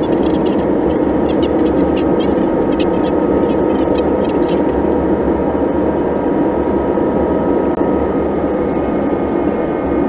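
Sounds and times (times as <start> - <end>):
jet engines roaring in cabin: 0.0 - 10.0.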